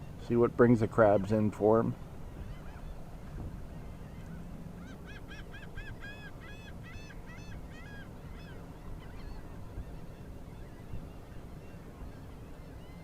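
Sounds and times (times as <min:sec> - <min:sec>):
bird calling: 0:00.8 - 0:03.1, 0:03.7 - 0:13.0.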